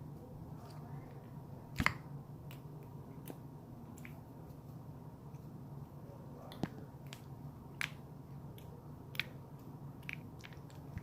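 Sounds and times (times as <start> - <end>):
slime kneaded by hand: 0.5 - 5.6, 6.4 - 11.0.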